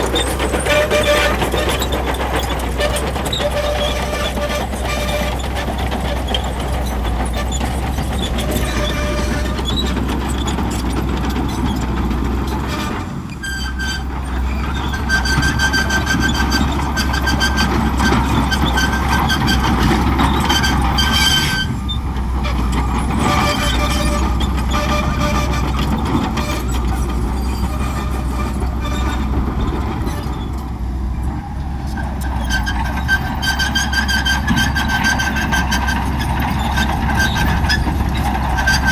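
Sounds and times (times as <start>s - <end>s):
bulldozer diesel engine running: 0.0s - 38.9s
metal tracks rattling: 0.0s - 38.9s.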